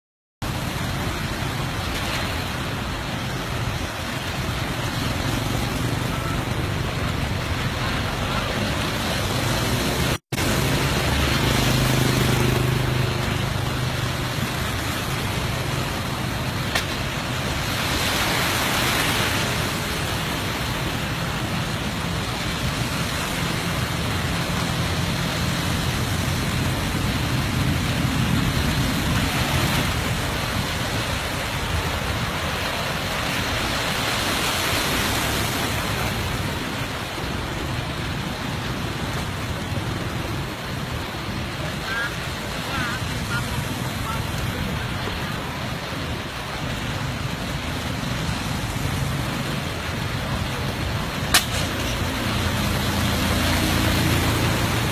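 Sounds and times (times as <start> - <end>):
vehicle engine hum: 0.4 - 33.2, 35.8 - 54.9
road traffic hiss: 0.4 - 54.9.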